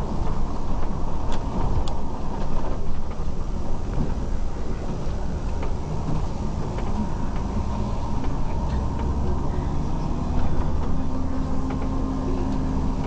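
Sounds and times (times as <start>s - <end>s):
vehicle rumble from inside: 0.0s - 13.0s.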